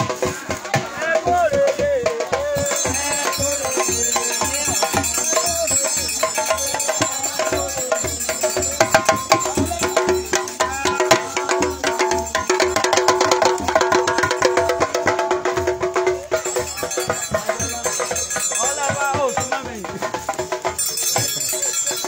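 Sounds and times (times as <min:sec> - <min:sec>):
people singing: 0:00.0 - 0:20.3
clicking hand percussion: 0:00.0 - 0:22.0
drums beating: 0:00.0 - 0:22.0.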